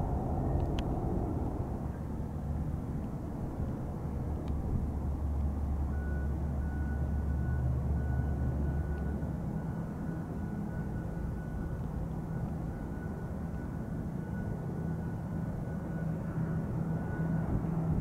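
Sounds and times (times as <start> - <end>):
propeller airplane drone: 0.0 - 18.0
thin steady whine: 0.0 - 18.0.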